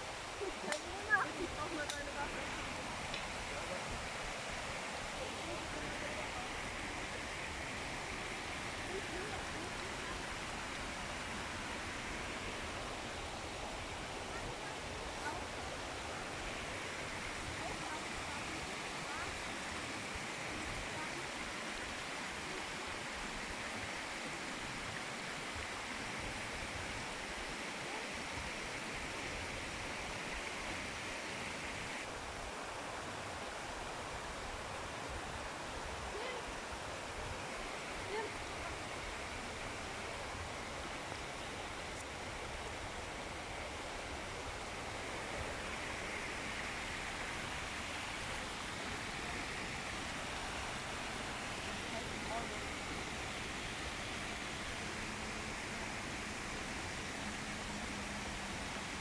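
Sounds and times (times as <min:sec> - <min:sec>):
stream rippling over rocks: 0:00.0 - 0:59.0.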